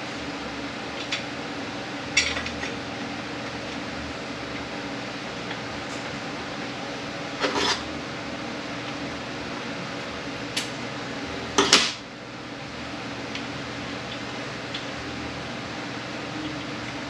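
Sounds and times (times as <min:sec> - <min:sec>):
shop hum: 0:00.0 - 0:17.0.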